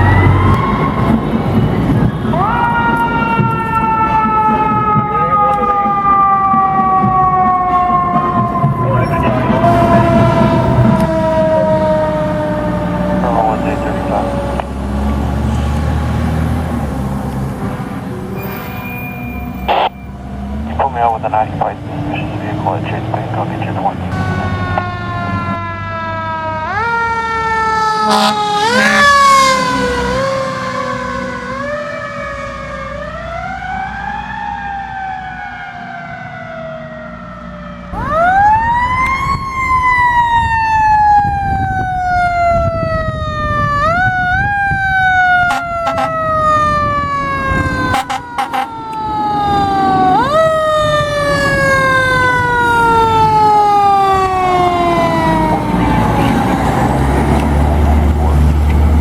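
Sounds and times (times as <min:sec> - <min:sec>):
fire truck siren wailing: 0:00.0 - 0:59.0
truck engine: 0:00.0 - 0:59.0.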